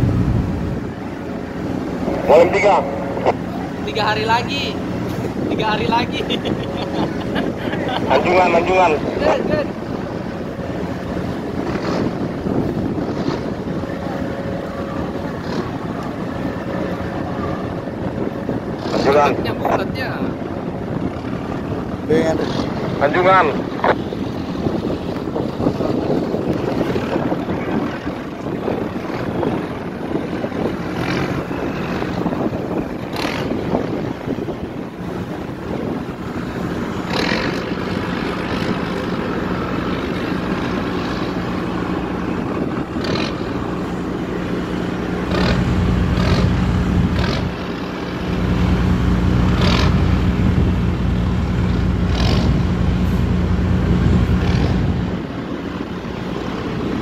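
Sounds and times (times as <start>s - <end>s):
ship engine humming: 0.0s - 57.0s
wind on microphone: 0.0s - 57.0s.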